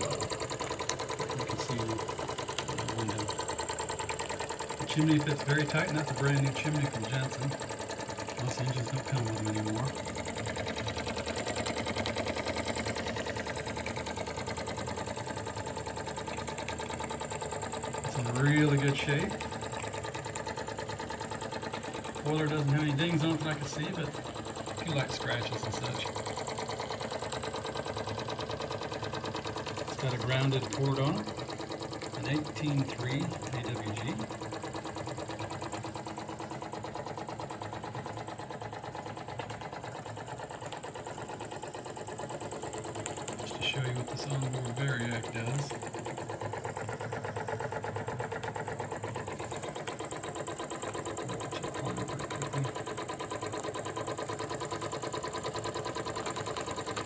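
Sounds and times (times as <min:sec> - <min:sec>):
light mechanical clatter: 0:00.0 - 0:57.0
toy steam engine chuffing: 0:00.0 - 0:57.0.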